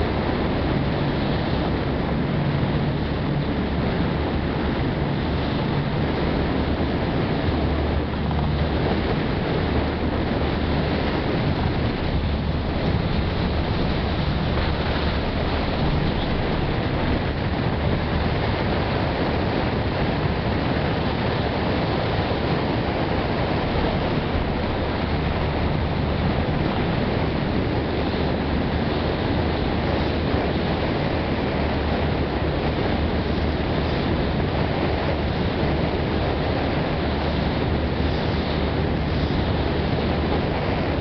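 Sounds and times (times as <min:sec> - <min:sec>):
boat engine drone: 0:00.0 - 0:41.0
water rushing along hull: 0:00.0 - 0:41.0
wind on microphone: 0:00.0 - 0:41.0.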